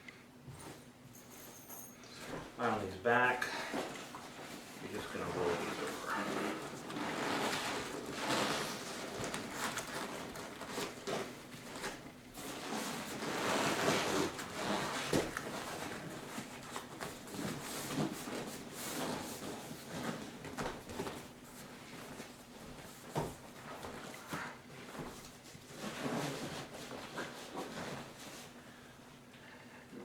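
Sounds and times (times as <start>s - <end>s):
seat cover rustling and scraping: 3.8s - 28.6s.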